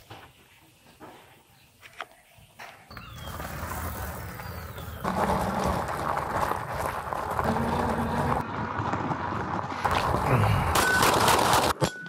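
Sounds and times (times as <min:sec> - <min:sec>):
bike tyres rolling over gravel: 0:00.0 - 0:11.8.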